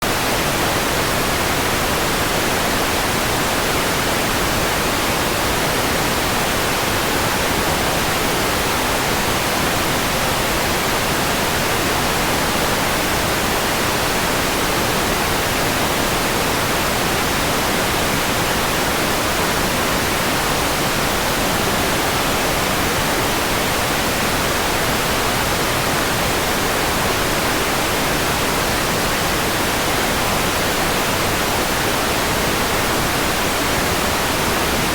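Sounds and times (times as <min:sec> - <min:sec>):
steady white noise hiss: 0:00.0 - 0:34.9.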